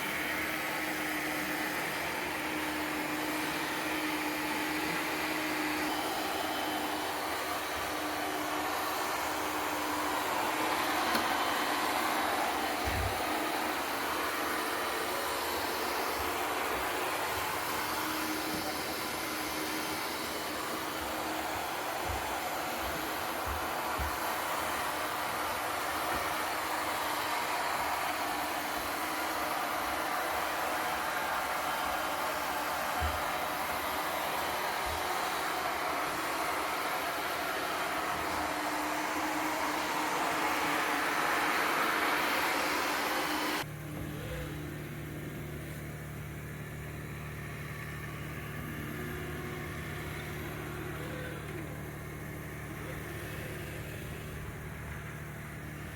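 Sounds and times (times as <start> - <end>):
robot vacuum cleaner whirring: 0.0 - 55.9.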